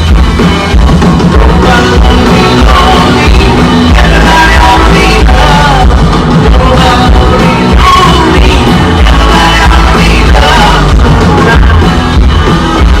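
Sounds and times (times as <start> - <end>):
distorted electric guitar: 0.0 - 13.0
rock band playing: 0.0 - 13.0
person singing: 1.3 - 12.0.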